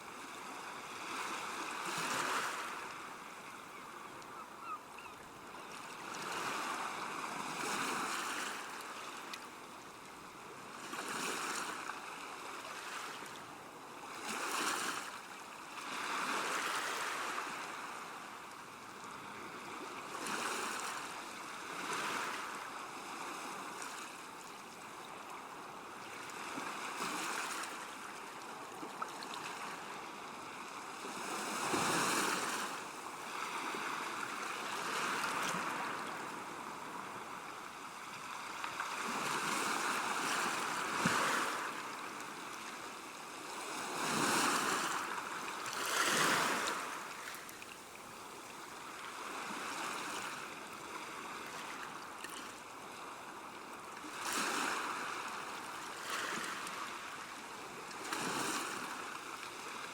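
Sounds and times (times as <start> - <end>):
river water lapping bank: 0.0 - 59.9.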